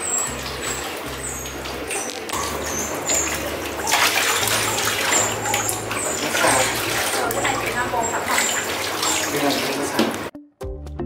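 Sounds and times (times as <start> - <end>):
water pouring and splashing: 0.0 - 10.3.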